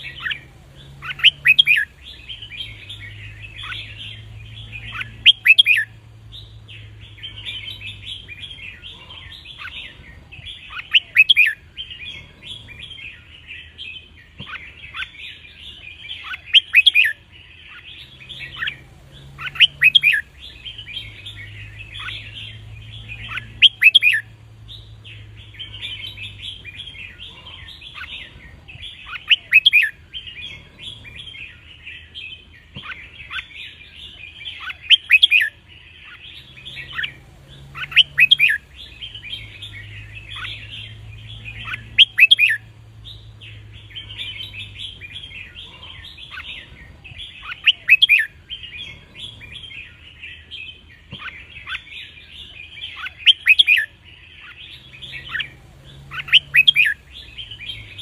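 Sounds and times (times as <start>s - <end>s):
birds chattering and twittering: 0.0s - 58.0s
birds singing clear phrases: 0.0s - 58.0s.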